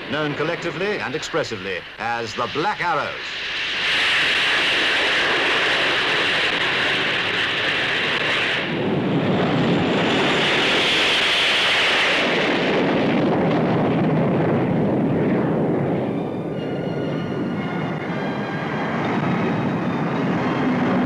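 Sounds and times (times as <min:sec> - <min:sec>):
deep jet rumble: 0:00.0 - 0:21.0
jet engines roaring: 0:00.0 - 0:21.0.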